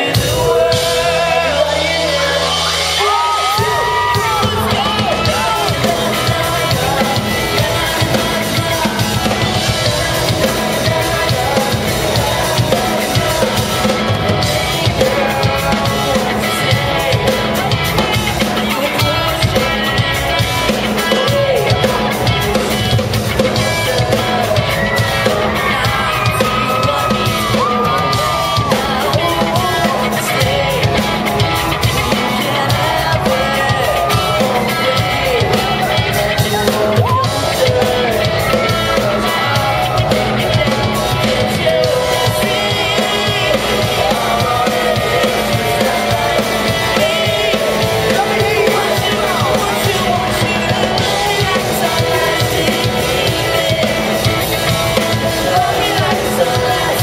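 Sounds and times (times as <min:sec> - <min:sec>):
live pop-rock band: 0:00.0 - 0:57.0
male singer: 0:00.0 - 0:57.0.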